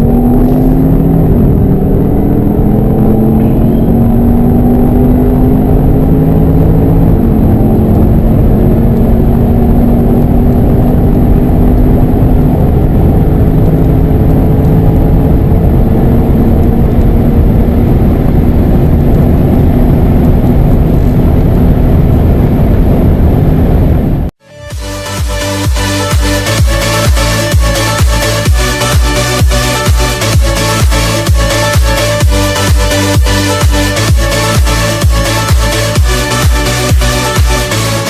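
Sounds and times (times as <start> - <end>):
car engine pulling hard: 0.0 - 38.0
road and wind noise: 0.0 - 38.0.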